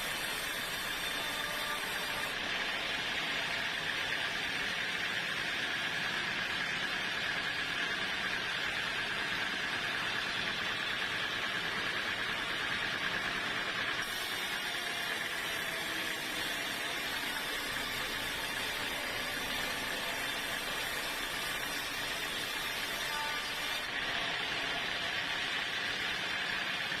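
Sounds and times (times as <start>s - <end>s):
sawmill machinery droning: 0.0s - 27.0s.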